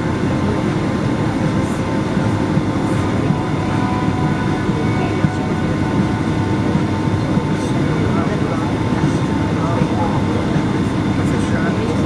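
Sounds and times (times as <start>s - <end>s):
airliner cabin rumble while taxiing: 0.0s - 12.0s
faint steady hum: 0.0s - 12.0s.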